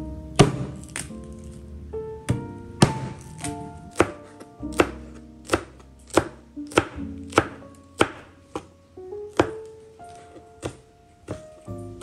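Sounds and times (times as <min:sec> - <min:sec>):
knife strikes on plastic cutting board: 0:00.4 - 0:01.2, 0:02.3 - 0:08.7, 0:09.3 - 0:12.0.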